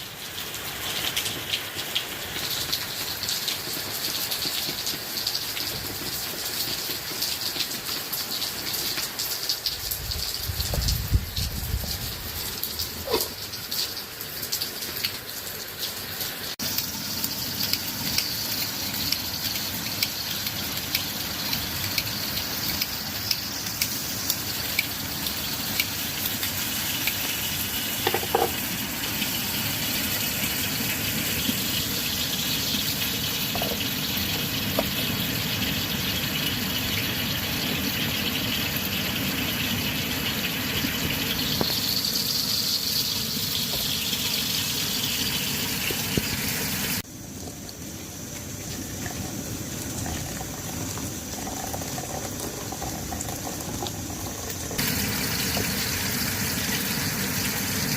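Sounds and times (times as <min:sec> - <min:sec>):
water running: 0:00.0 - 0:57.9.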